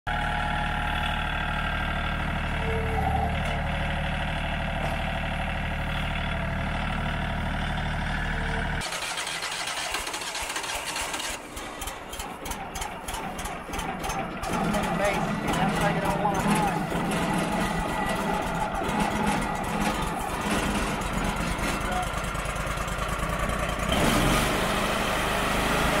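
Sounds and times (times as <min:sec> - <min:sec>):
tractor diesel engine running: 0:00.1 - 0:26.0.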